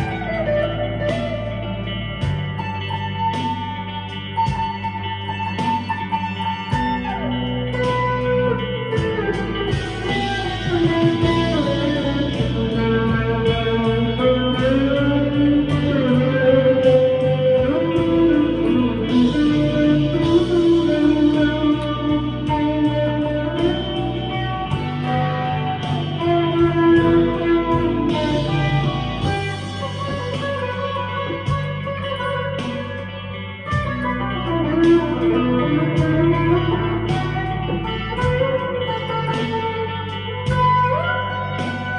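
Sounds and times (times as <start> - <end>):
electric guitar melodic lines: 0.0 - 41.9.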